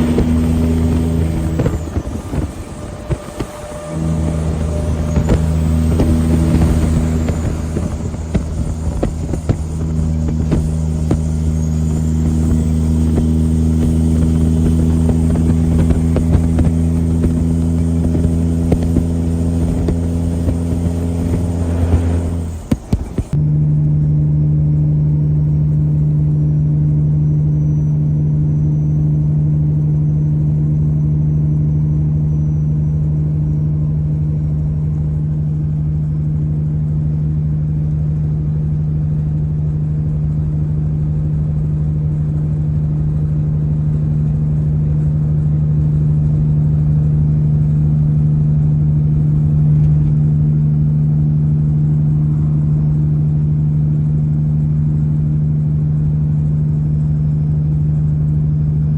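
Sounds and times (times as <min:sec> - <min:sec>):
road noise: 0:00.0 - 0:24.3, 0:33.9 - 0:58.9
truck engine droning: 0:00.0 - 0:58.9.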